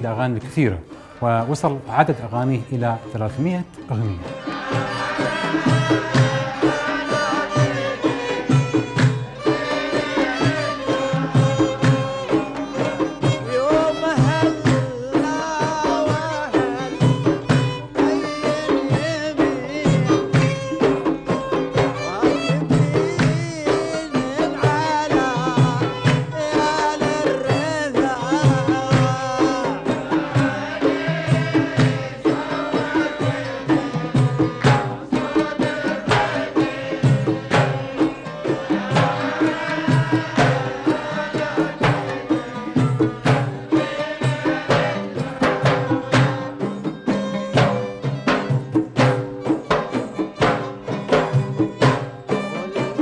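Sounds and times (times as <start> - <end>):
man singing: 0.0 - 48.5
hand drums: 0.0 - 53.0
oud: 0.0 - 53.0
rhythmic handclaps: 4.3 - 53.0.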